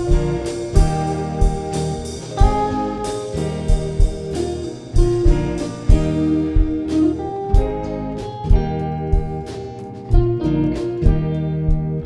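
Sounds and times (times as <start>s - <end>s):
drum kit beat: 0.0s - 12.0s
electric and acoustic guitars: 0.0s - 12.0s
keyboard chords: 0.0s - 12.0s.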